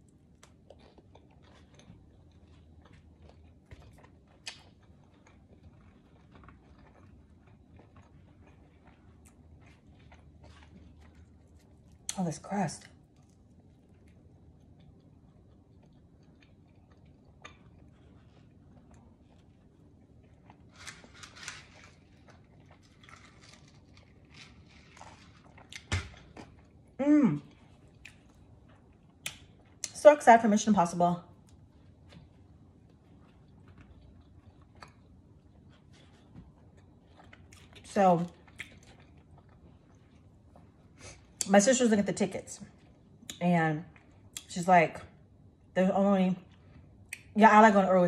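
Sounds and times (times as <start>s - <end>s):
chewing pizza: 0.0s - 30.0s, 30.8s - 41.6s, 46.4s - 47.4s.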